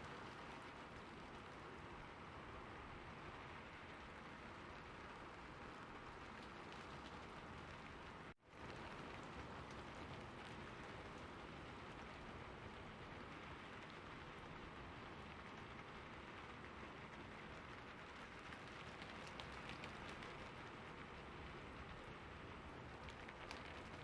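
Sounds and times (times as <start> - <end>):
steady rainfall: 0.0 - 24.0.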